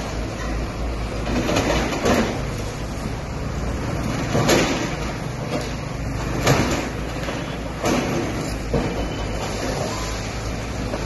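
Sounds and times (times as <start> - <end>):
excavator running: 0.0 - 11.0.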